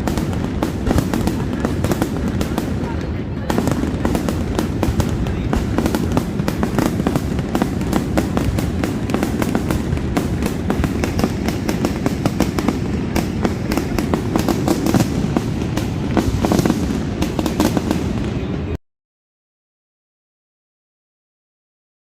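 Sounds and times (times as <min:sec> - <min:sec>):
fireworks crackling and popping: 0:00.0 - 0:18.8
low rumble of firework bursts: 0:00.0 - 0:18.8.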